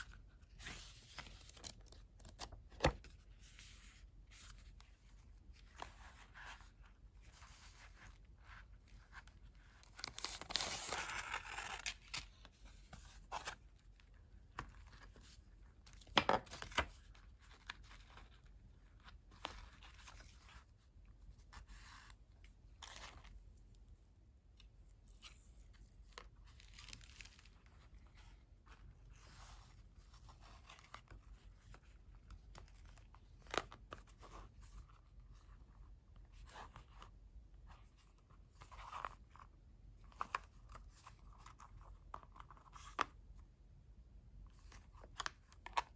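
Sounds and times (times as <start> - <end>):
soft handling noises: 0.0 - 45.9.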